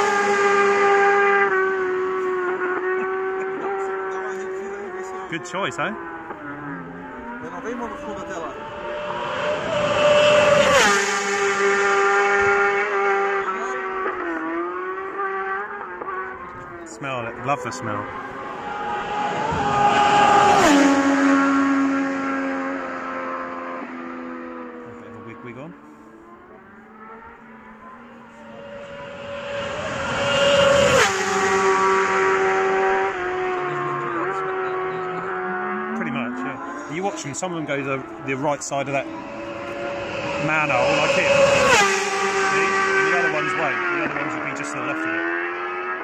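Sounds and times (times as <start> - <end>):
race motorcycle engine passing: 0.0 - 46.0.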